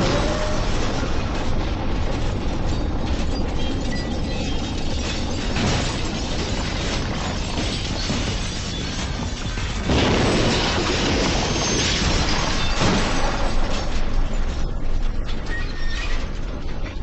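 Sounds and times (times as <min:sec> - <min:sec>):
explosion rumble: 0:00.0 - 0:03.5, 0:05.2 - 0:15.4
debris crashing and shattering: 0:00.0 - 0:17.0.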